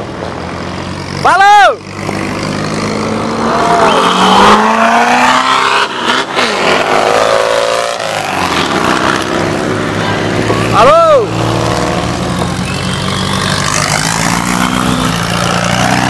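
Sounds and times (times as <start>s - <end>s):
buggy engines revving: 0.0s - 16.0s
loud rushing noise: 2.2s - 16.0s.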